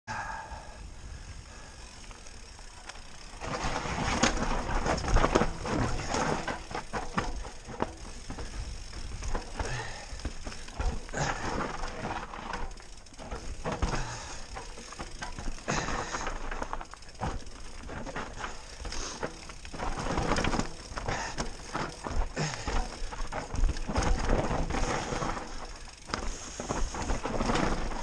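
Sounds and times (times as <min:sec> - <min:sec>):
bike tyres on dirt: 0:00.1 - 0:28.0
bike rattling over bumps: 0:01.2 - 0:28.0.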